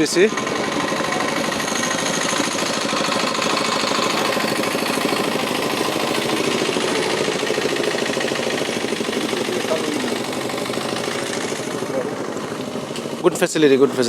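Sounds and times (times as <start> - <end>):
bus engine idling with clatter: 0.0 - 14.0.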